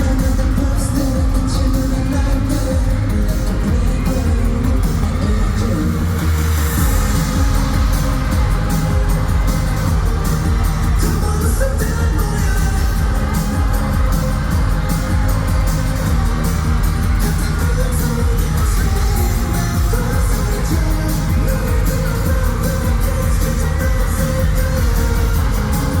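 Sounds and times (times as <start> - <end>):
person singing: 0.0 - 26.0
pop backing track with beat: 0.0 - 26.0.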